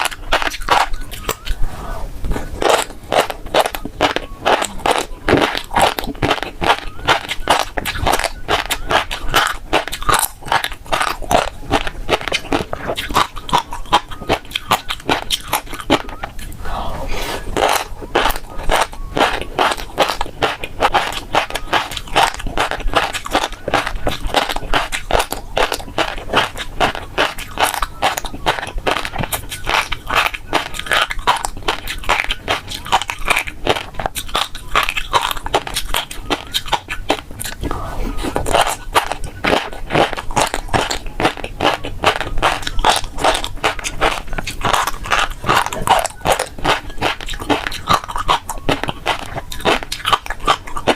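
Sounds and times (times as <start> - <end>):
chewing fish roe pops: 0.0 - 1.6, 2.4 - 16.6, 17.6 - 50.9.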